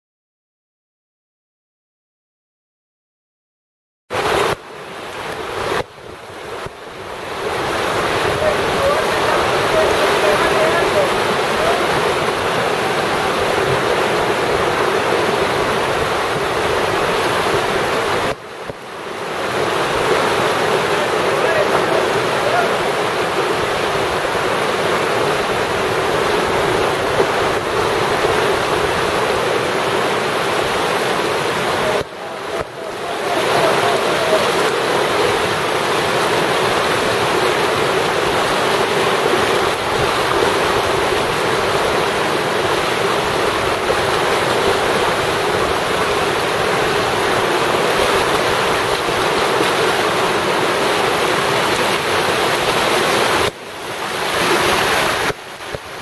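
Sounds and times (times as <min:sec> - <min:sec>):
water rushing over rapids: 0:04.1 - 0:56.0.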